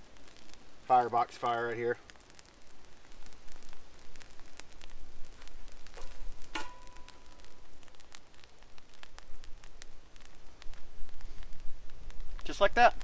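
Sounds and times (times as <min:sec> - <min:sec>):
paper burning with crackling: 0:00.0 - 0:13.0.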